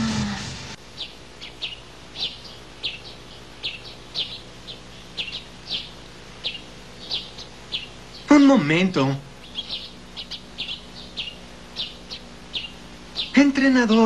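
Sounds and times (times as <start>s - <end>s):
small birds chirping: 0.7s - 14.0s.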